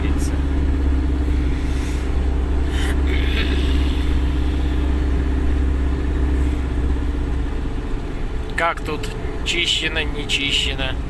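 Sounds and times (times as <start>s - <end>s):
truck engine and tyres droning: 0.0s - 11.0s.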